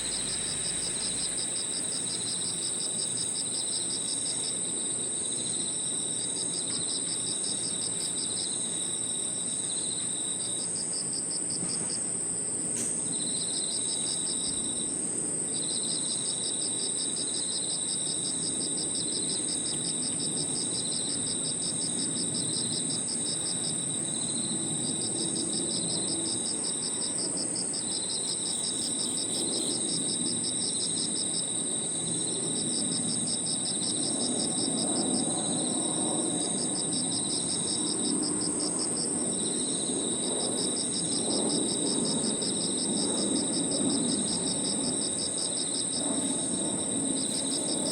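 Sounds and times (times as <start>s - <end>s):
continuous high insect trill: 0.0s - 47.9s
pulsed cricket chirps: 0.0s - 47.9s.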